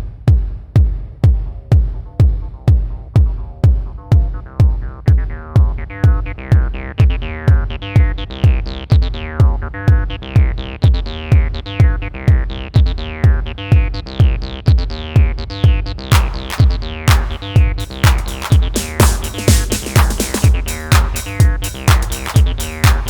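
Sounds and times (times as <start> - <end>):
drum machine kick: 0.0 - 23.0
acid synth bassline: 2.2 - 23.0.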